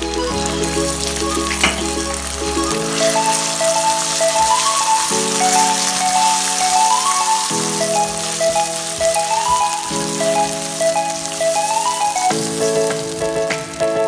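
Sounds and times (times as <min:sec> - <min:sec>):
background music with held chords: 0:00.0 - 0:14.0
sauce sizzling in a pan: 0:00.4 - 0:14.0.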